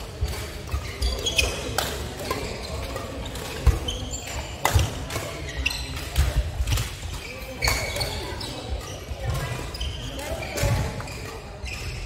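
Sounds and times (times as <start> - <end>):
rackets striking shuttlecock: 0.0 - 12.0
shoes squeaking on court: 0.0 - 12.0.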